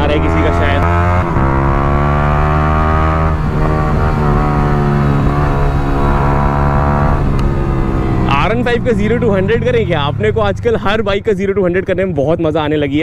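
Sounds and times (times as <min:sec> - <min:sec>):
motorcycle engine cruising: 0:00.0 - 0:12.7.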